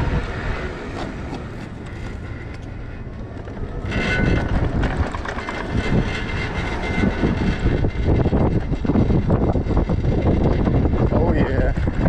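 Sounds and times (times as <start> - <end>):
thin high whine: 0.0 - 12.0
wind and road rumble: 0.0 - 12.0.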